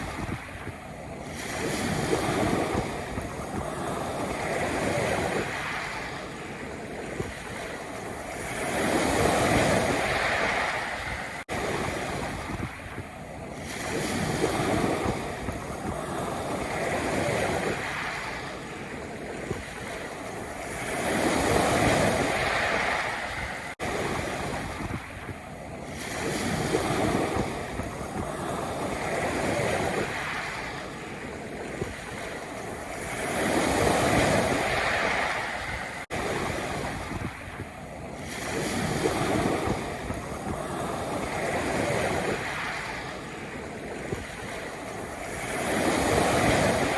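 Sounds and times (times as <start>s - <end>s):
waves washing over pebble beach: 0.0s - 46.9s.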